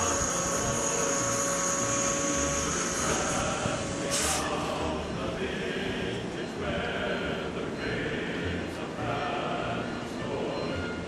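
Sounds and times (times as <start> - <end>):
choral singing: 0.0 - 11.0
passenger train rumbling past: 0.0 - 11.0.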